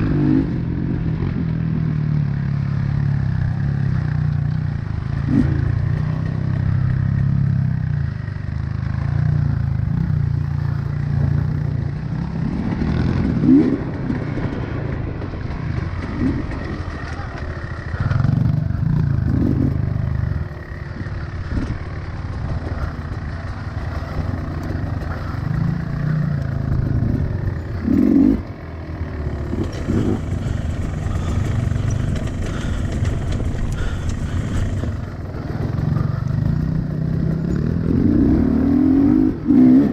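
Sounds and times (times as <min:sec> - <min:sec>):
small dirt bike engine revving: 0:02.6 - 0:39.9.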